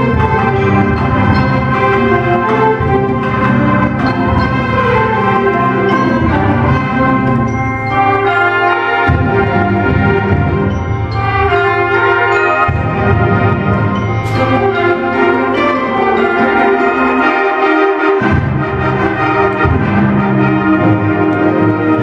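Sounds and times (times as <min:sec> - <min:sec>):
symphonic band playing chords: 0:00.0 - 0:22.0.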